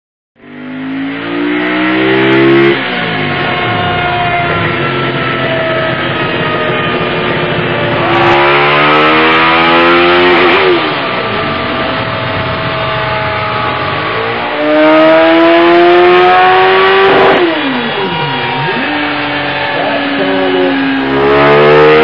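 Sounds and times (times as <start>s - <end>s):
motorcycle engine at full throttle: 0.4s - 22.0s.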